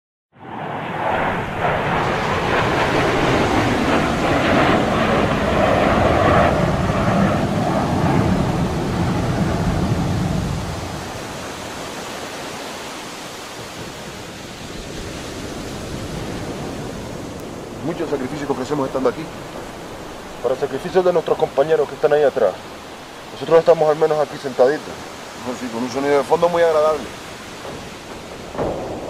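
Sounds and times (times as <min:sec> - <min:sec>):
steady rushing noise: 0:00.4 - 0:29.0.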